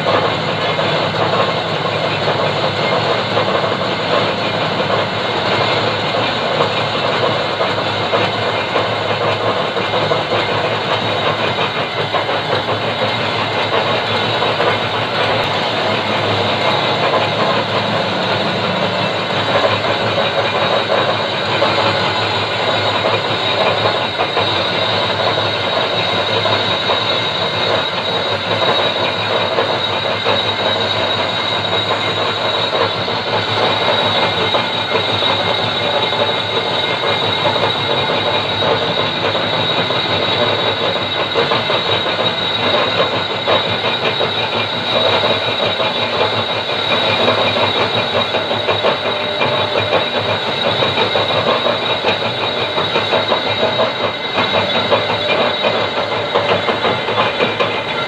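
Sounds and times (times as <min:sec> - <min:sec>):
high-pitched whine: 0:00.0 - 0:58.0
metal lathe grinding: 0:00.0 - 0:58.0.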